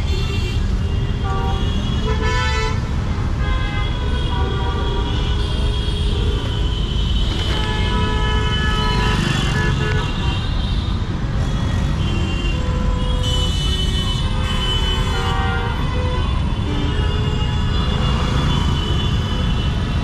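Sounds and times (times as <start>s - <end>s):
vehicle horns honking: 0.0s - 10.9s, 11.8s - 20.0s
traffic engines rumbling: 0.0s - 20.0s.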